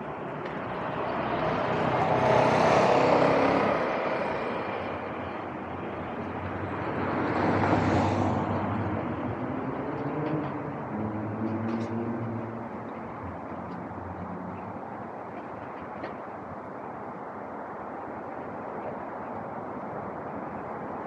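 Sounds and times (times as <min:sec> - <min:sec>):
road vehicles passing: 0:00.0 - 0:21.0.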